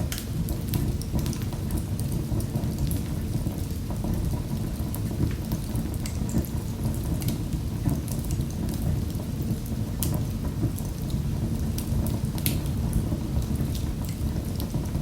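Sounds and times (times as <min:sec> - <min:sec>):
fireplace fire crackling and popping: 0:00.0 - 0:15.0.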